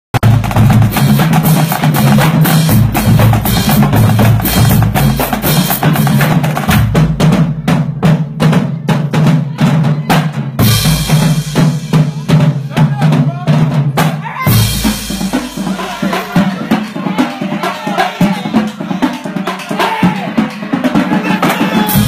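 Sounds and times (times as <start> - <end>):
pitched bass drums: 0.1 - 22.0
snare drums rattling: 0.2 - 22.0.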